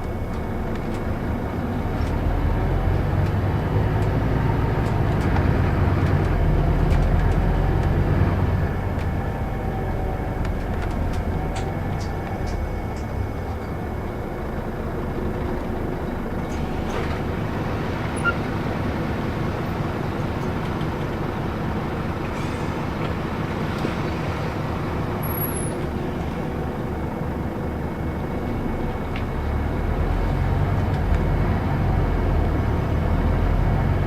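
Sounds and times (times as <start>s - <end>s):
city bus running: 0.0s - 34.0s.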